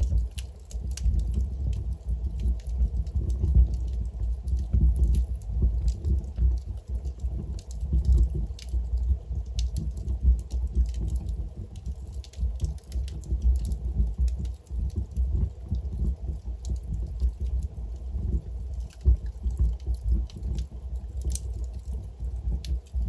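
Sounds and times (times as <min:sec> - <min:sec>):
logs crackling and popping: 0:00.0 - 0:23.0
rumble of fire flames: 0:00.0 - 0:23.0.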